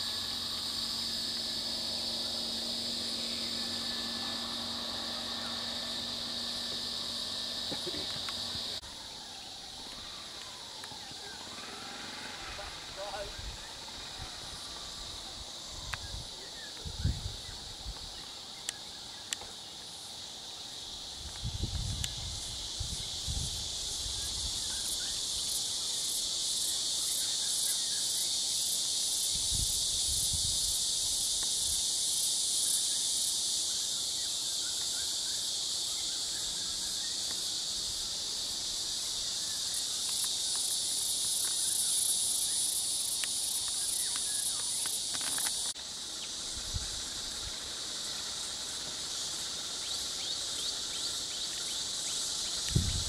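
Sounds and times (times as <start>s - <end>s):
insects buzzing: 0.0s - 53.0s.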